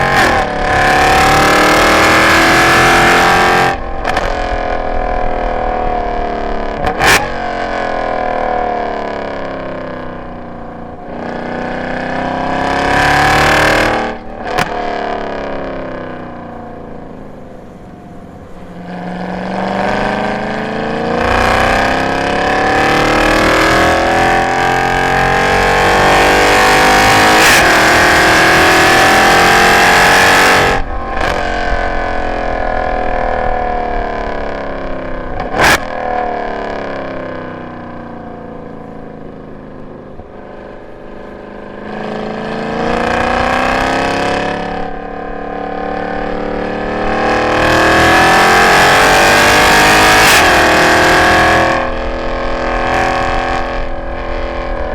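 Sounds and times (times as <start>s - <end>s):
car engine accelerating: 0.0s - 54.9s
exhaust crack: 0.0s - 54.9s.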